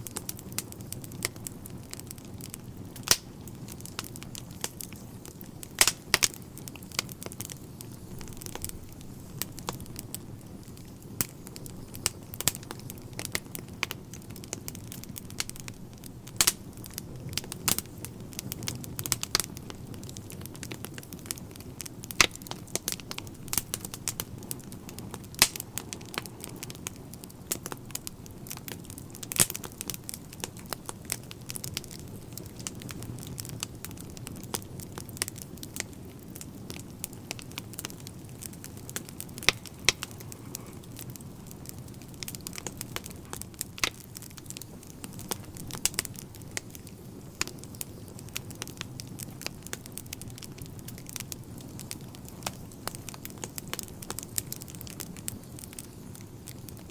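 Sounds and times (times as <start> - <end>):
logs crackling and popping: 0.0 - 56.9
low rumble of flames: 0.0 - 56.9.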